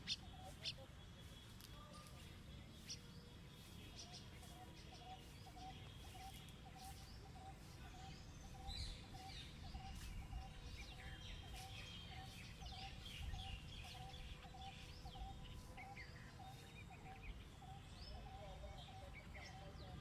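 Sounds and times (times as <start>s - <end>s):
birds chirping high: 0.0s - 20.0s.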